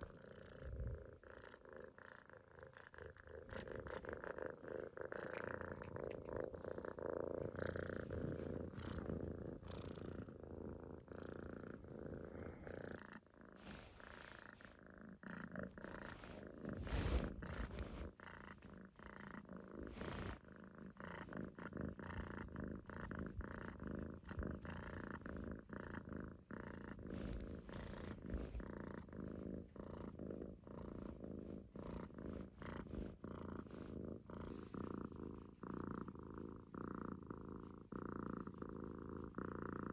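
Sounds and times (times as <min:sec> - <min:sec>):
kitten snoring: 0:00.0 - 0:39.9.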